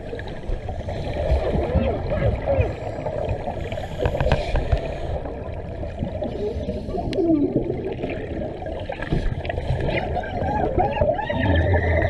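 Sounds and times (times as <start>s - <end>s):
underwater air bubbles gurgling: 0.0s - 12.0s.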